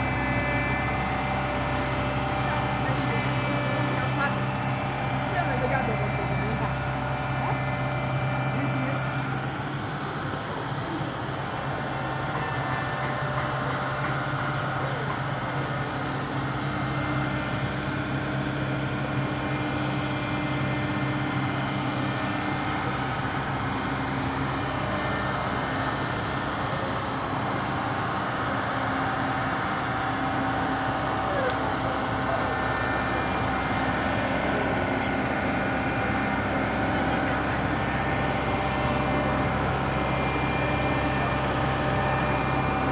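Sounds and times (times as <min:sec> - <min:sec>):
large engine humming: 0:00.0 - 0:42.9.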